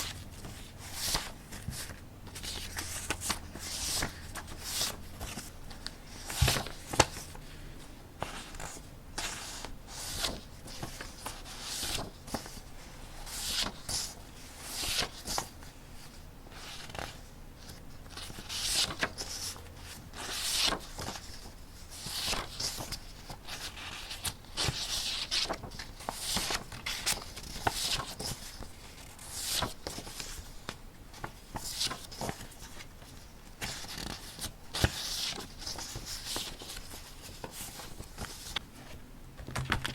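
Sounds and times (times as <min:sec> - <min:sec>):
paper rustling: 0:00.0 - 0:39.9.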